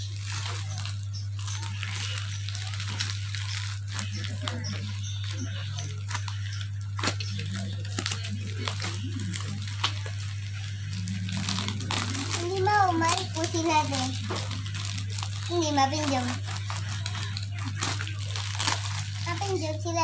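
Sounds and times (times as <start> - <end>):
packaging crinkling and tearing: 0.0 - 20.0
steady low hum: 0.0 - 20.0.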